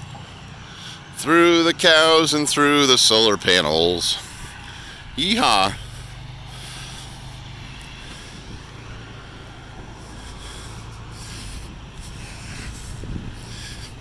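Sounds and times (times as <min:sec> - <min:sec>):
truck diesel engine droning: 0:00.0 - 0:14.0.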